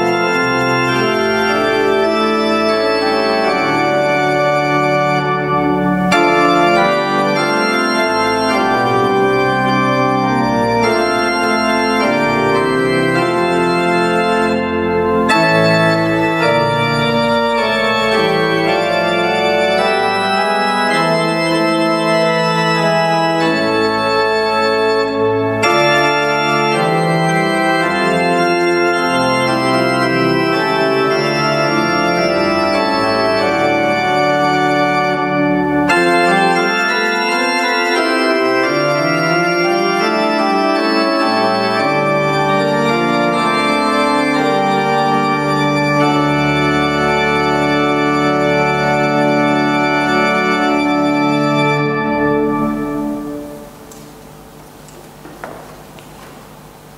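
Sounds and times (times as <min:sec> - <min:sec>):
church organ playing chords: 0:00.0 - 0:56.9.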